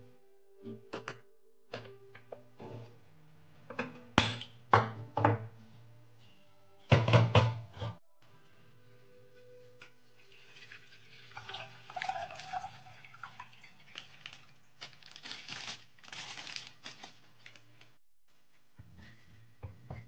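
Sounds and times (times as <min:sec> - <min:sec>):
soft background music: 0:00.0 - 0:17.9.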